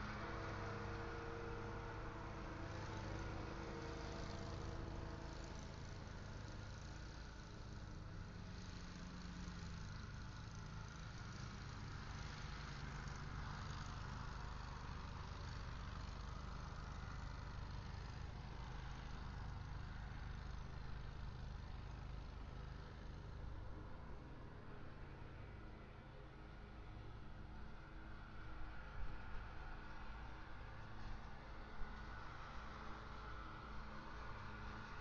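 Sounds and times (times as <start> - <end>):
distant vehicle engines rumbling: 0.0 - 35.0.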